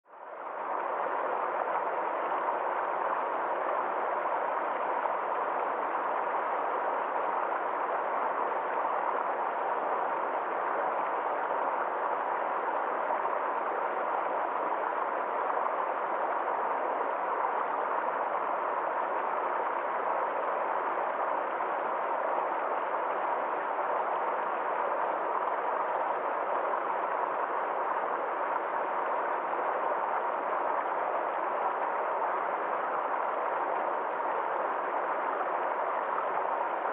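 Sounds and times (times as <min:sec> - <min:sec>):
stream tumbling over rocks: 0:00.4 - 0:36.9.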